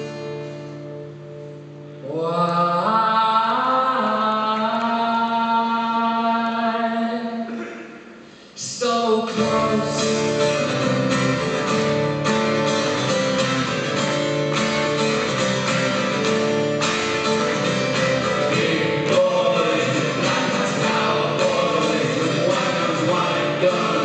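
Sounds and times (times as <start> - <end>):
strummed acoustic guitar: 0.0 - 5.6, 7.4 - 24.0.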